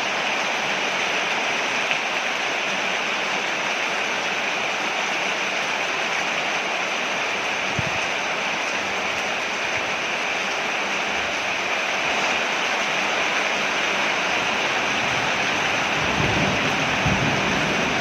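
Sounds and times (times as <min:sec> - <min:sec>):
heavy rain on a porch: 0:00.0 - 0:18.0.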